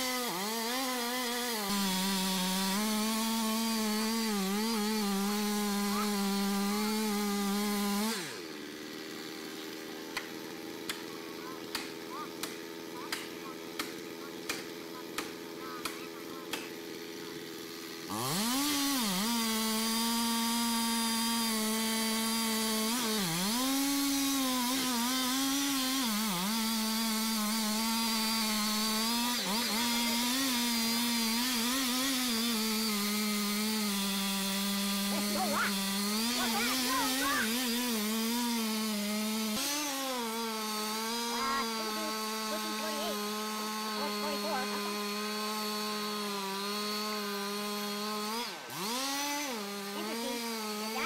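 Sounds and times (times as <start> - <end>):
chainsaw cutting tree trunk: 0.0 - 51.0.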